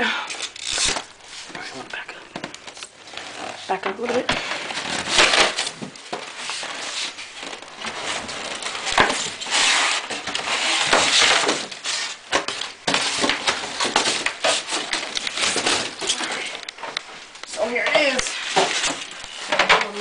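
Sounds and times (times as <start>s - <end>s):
packing material rustling: 0.3s - 20.0s.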